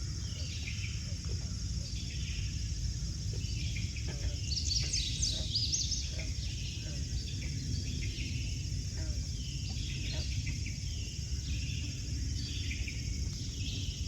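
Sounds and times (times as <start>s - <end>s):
frogs chirping: 0.0s - 14.0s.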